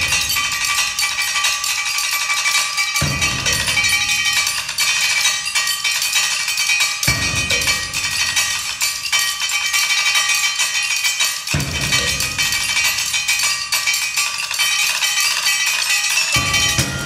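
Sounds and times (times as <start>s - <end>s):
mallet percussion ostinato: 0.0s - 9.0s, 11.5s - 17.0s.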